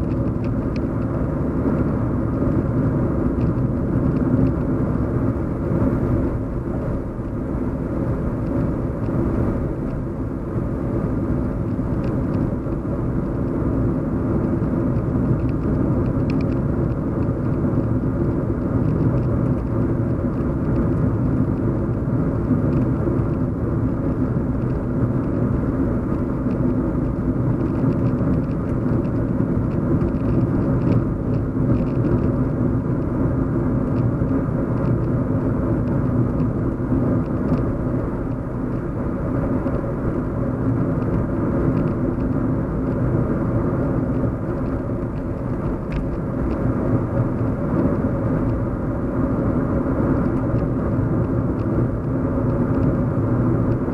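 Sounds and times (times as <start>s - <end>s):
car driving hum: 0.0s - 53.9s.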